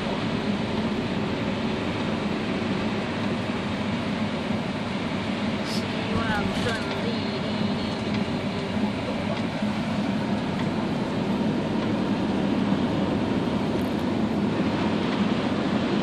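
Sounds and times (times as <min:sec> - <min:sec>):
vehicle running hum: 0:00.0 - 0:16.0.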